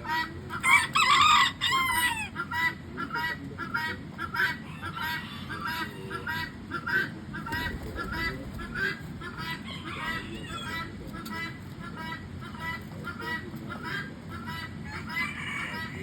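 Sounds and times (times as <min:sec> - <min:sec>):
poultry honking calls: 0:00.0 - 0:16.0.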